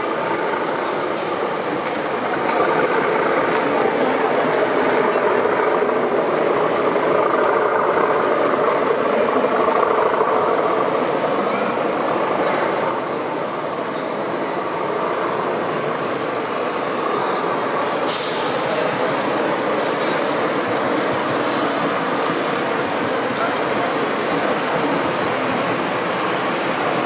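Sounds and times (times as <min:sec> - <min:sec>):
model train wheels on track: 0:00.0 - 0:27.0.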